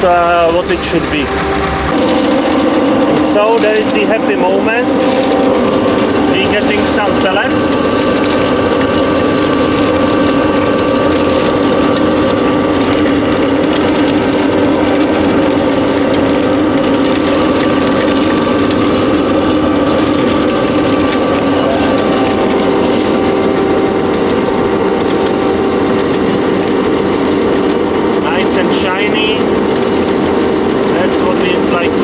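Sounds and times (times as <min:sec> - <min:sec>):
pellet mill mechanical hum: 0:00.0 - 0:32.0
rollers rattling: 0:00.0 - 0:32.0.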